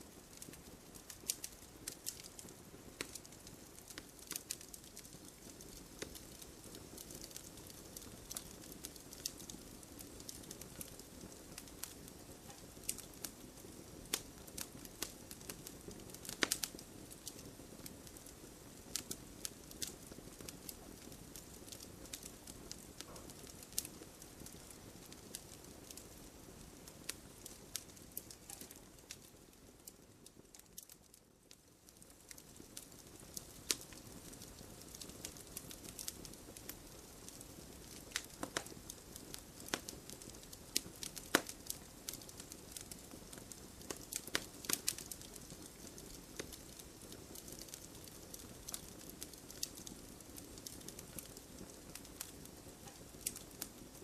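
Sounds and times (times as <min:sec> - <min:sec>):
campfire crackling and popping: 0:00.0 - 0:54.0
low hiss of flames: 0:00.0 - 0:54.0.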